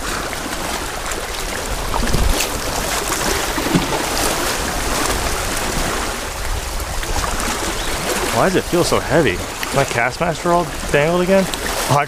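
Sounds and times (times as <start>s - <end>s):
ocean surf washing on shore: 0.0s - 12.0s
wind rumbling on microphone: 0.0s - 12.0s.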